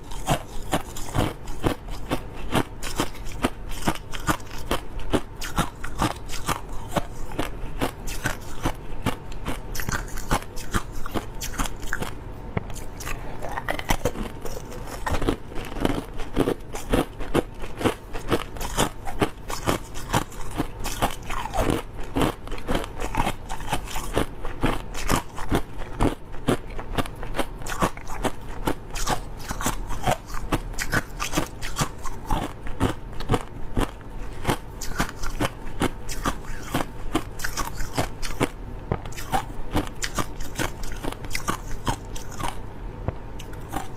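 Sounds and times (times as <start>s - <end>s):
crushed ice being chewed: 0.0s - 42.6s, 43.4s - 43.9s.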